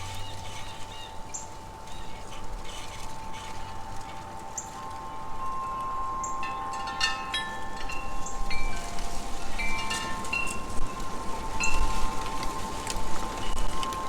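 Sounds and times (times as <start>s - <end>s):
low sustained chime tone: 0.0s - 14.0s
metal wind chimes ringing: 0.0s - 14.0s.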